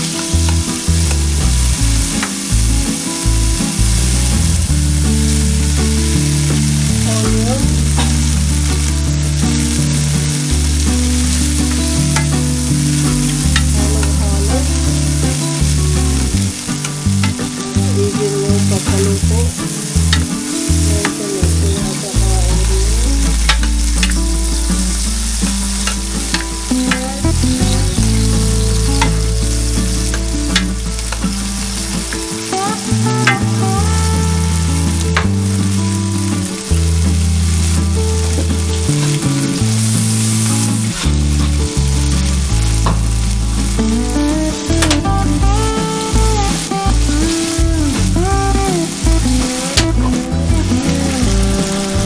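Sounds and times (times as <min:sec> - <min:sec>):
vegetables sizzling in hot oil: 0:00.0 - 0:52.0.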